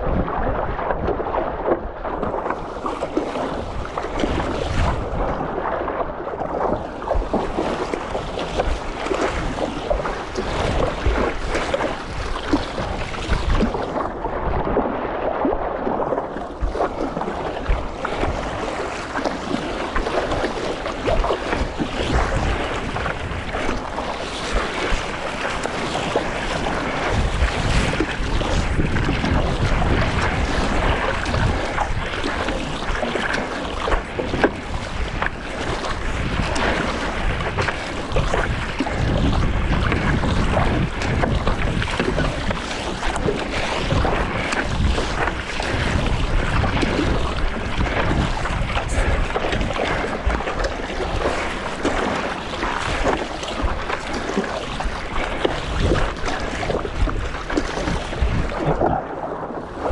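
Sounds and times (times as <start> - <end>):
water splashing and sloshing: 0.0 - 59.9
wind buffeting microphone: 0.0 - 59.9.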